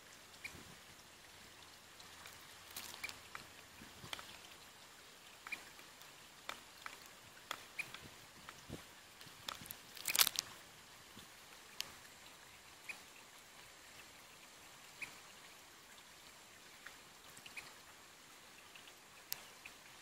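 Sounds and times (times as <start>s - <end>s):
soft hiss: 0.0s - 20.0s
faint ticks: 0.2s - 20.0s.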